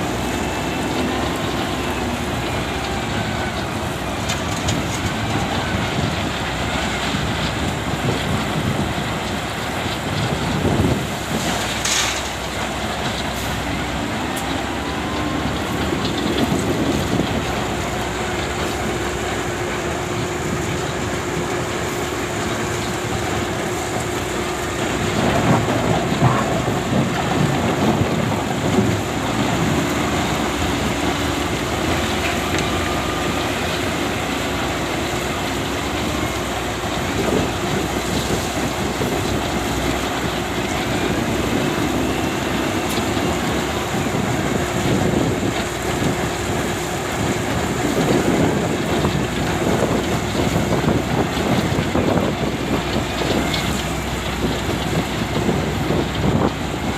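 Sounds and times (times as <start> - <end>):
excavator diesel engine running: 0.0 - 56.9
rough rumbling and clatter: 0.0 - 56.9.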